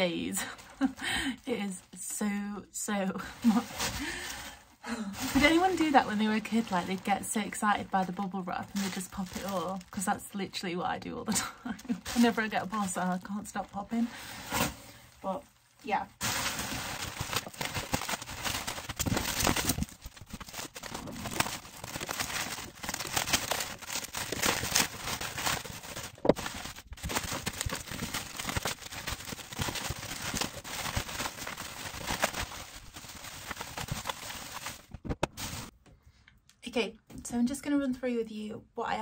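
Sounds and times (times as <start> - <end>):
bubble wrap crinkling: 3.0 - 35.7.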